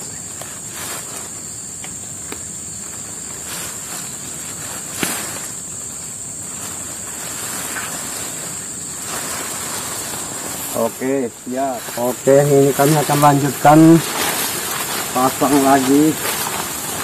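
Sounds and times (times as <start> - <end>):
insects buzzing: 0.0 - 17.0
fishing net handling noise: 3.2 - 17.0.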